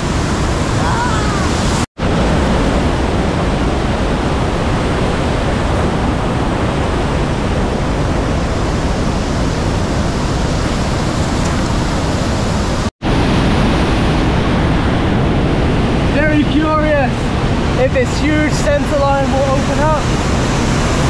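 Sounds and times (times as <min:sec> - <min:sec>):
whitewater rapids rushing: 0:00.0 - 0:21.0.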